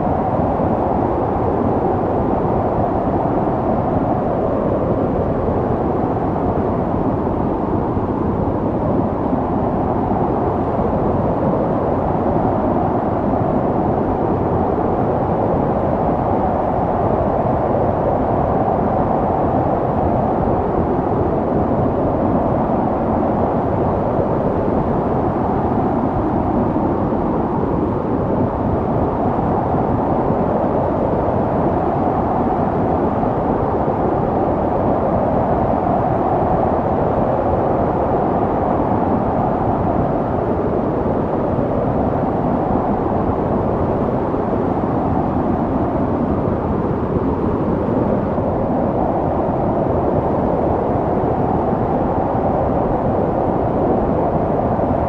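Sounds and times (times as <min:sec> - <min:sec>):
snowstorm wind rushing: 0:00.0 - 0:55.0.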